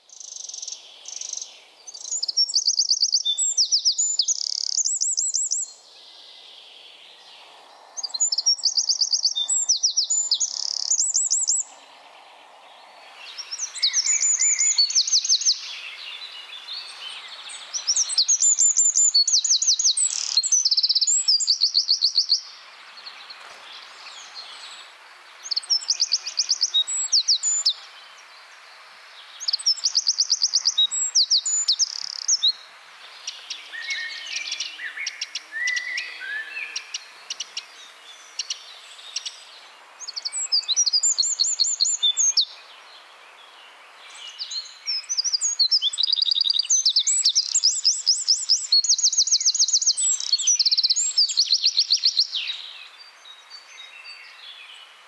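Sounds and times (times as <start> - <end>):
wren singing trills: 0.0 - 5.8, 7.8 - 12.0, 12.8 - 22.7, 25.4 - 28.0, 29.4 - 32.6, 33.2 - 42.7, 44.1 - 54.5.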